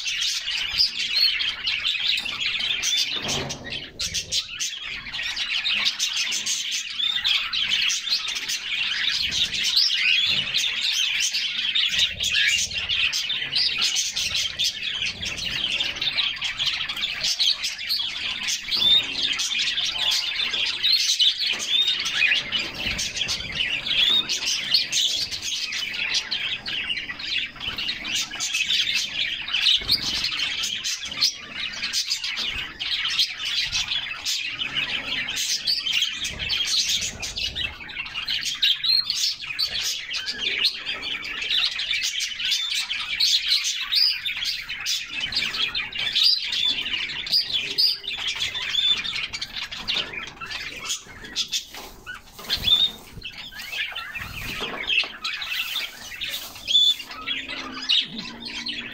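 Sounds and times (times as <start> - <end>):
canaries chirping and trilling: 0.0 - 58.9.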